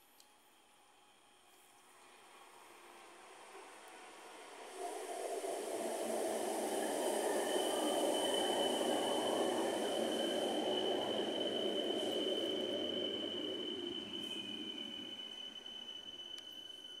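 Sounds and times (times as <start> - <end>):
thin high whine: 0.0 - 17.0
train wheel and running noise: 0.4 - 17.0.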